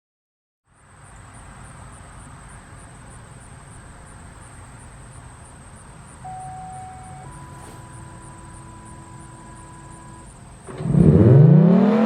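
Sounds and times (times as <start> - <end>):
high insect drone: 0.7 - 11.2.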